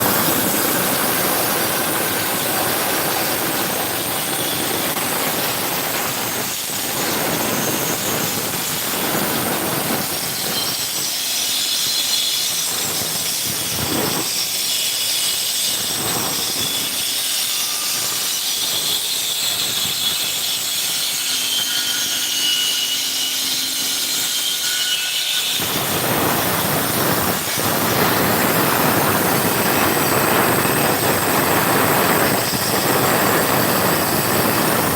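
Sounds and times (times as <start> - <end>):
concrete saw grinding: 0.0 - 34.9.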